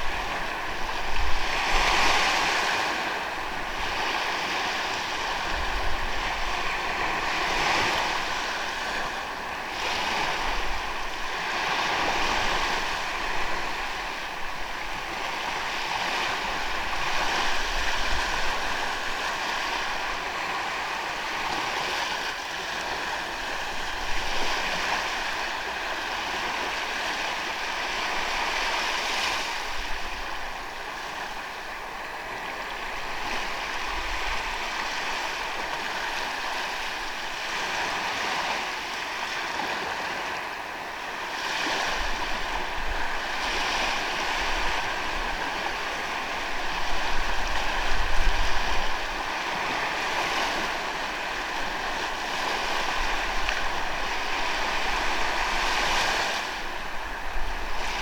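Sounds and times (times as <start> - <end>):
waves breaking on sandy beach: 0.0 - 58.0.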